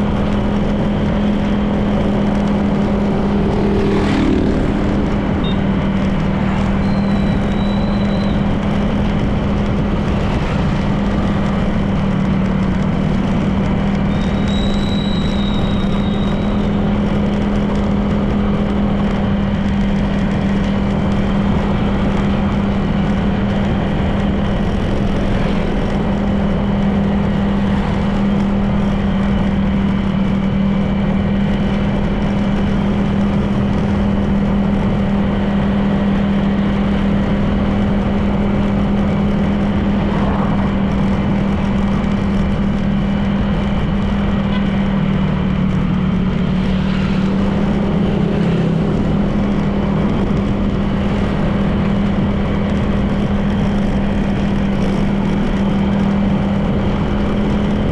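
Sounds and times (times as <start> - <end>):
scooter engine running: 0.0 - 57.9
wind noise: 0.0 - 57.9.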